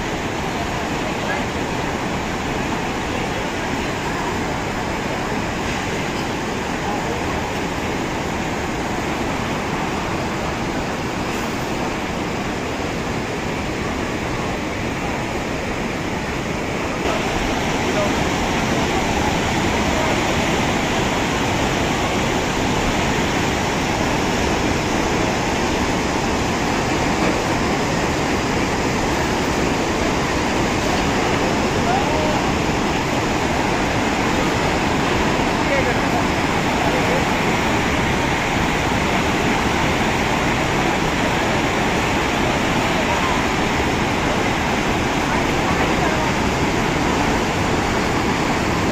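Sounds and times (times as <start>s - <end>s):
river rushing: 0.0s - 48.9s.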